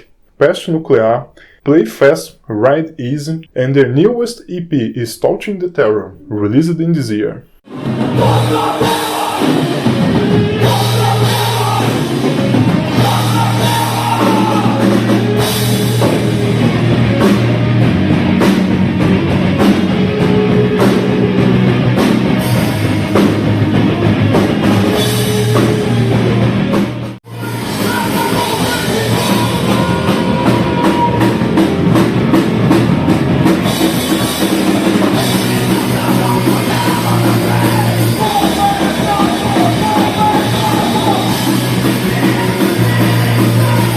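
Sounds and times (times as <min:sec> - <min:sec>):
thrash metal band playing: 0:07.1 - 0:43.9.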